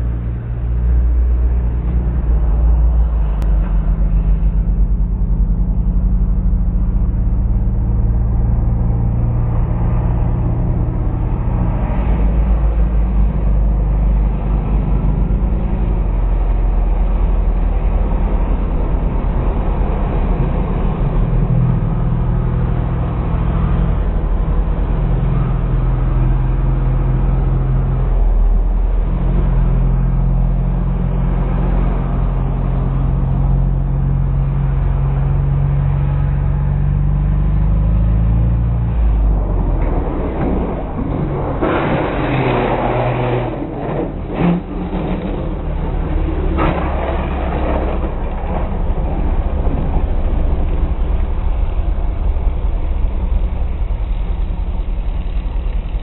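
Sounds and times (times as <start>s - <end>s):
motorcycle engines: 0.0s - 56.0s.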